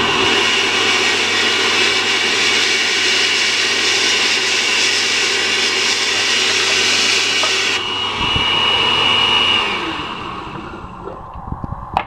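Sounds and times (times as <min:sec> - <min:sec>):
blender running: 0:00.0 - 0:11.4
high motor whine: 0:00.0 - 0:12.0.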